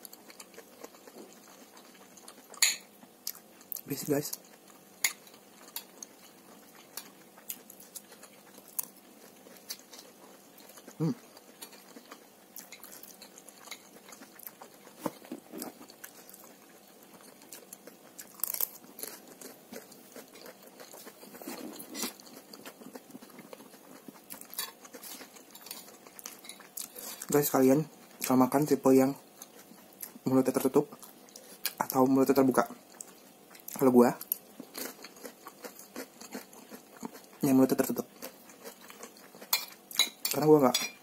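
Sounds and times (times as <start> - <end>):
person chewing food: 0.0 - 40.5.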